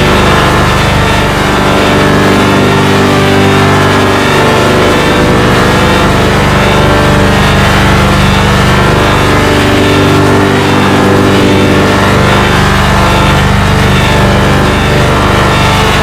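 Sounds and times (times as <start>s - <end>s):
electronic buzzing drone: 0.0s - 16.0s.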